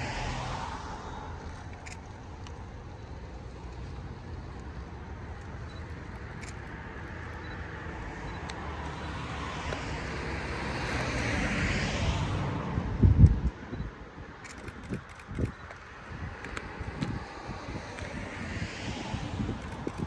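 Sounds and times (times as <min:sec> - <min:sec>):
vehicle passing by: 0:00.0 - 0:01.9, 0:03.9 - 0:13.2, 0:14.4 - 0:20.0.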